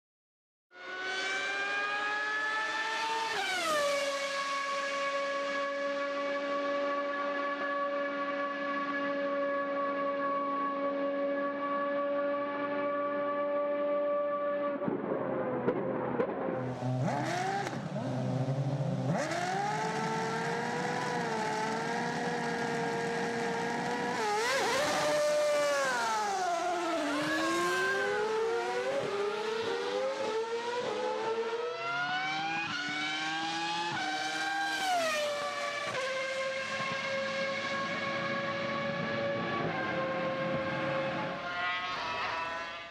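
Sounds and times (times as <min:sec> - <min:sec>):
racing car engine revving: 0:00.8 - 0:42.9.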